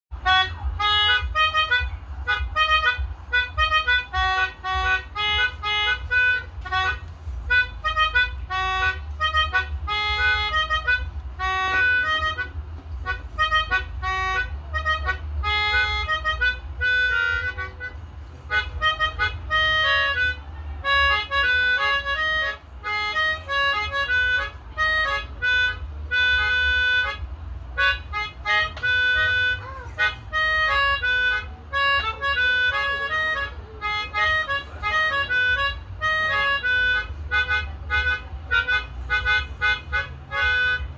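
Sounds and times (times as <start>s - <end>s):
melodica playing quick reedy notes: 0.2s - 40.9s
steady low hum: 0.2s - 40.9s.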